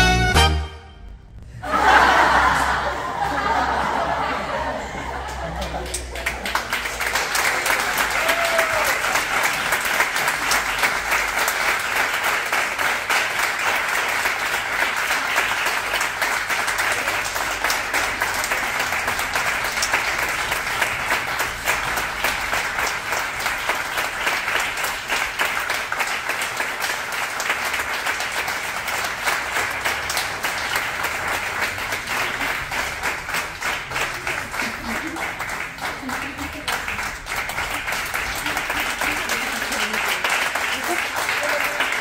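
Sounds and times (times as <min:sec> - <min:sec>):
audience applauding: 0:01.6 - 0:42.0.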